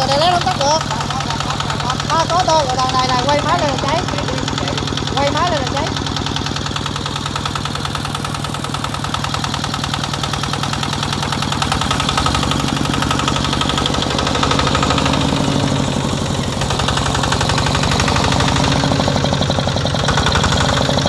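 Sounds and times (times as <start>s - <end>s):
diesel engine knocking: 0.0s - 21.0s.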